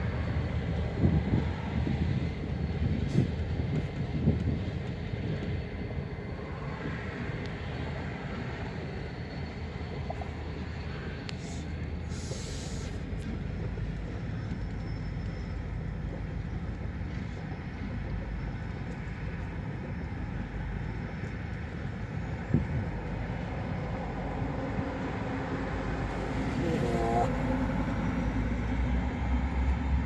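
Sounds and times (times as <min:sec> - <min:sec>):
freight train rumbling past: 0:00.0 - 0:30.0.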